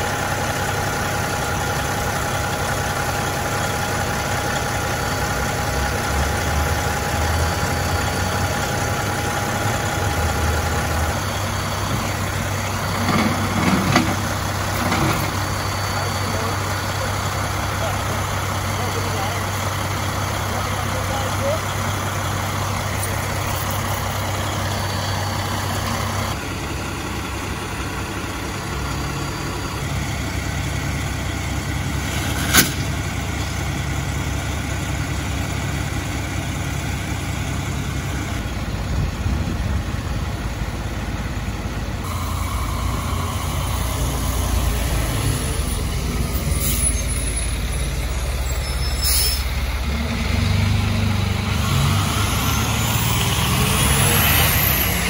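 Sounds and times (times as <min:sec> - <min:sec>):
diesel engines idling: 0:00.0 - 0:55.0.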